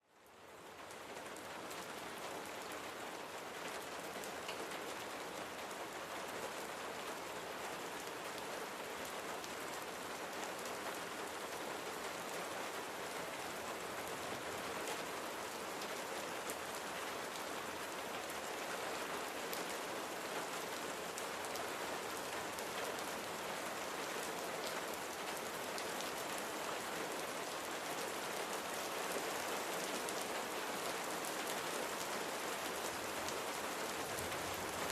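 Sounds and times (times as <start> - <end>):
rain pattering on a surface: 0.1 - 34.9.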